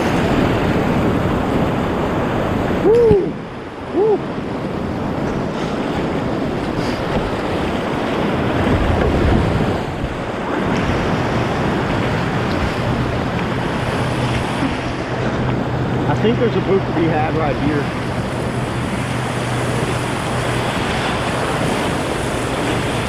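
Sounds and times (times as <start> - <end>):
rapids rushing: 0.0 - 23.0
wind buffeting microphone: 0.0 - 23.0.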